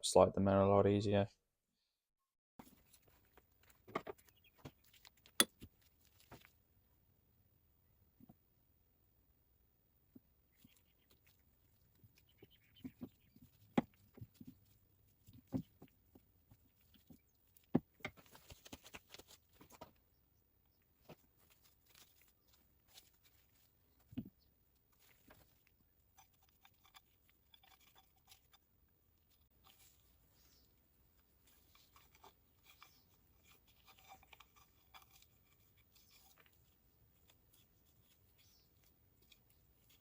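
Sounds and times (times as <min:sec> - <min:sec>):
soft rustling of rubber tubes: 0:02.6 - 0:06.9, 0:10.0 - 0:40.0.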